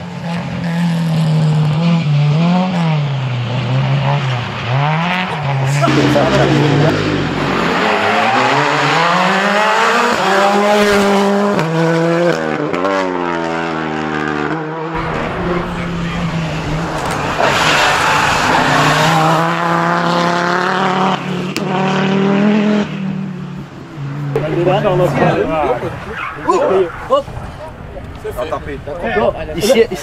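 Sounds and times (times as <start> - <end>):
rally car accelerating through gears: 0.1 - 26.3
car engine revving: 0.1 - 27.9.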